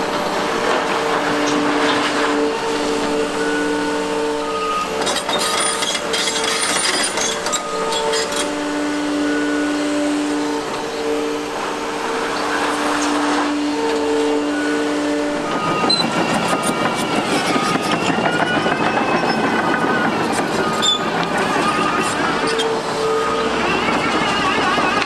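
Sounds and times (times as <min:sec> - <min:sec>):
excavator working: 0:00.0 - 0:25.0
rapid rhythmic clanking of tracks: 0:00.0 - 0:25.0
whining and squealing tones: 0:00.0 - 0:25.0.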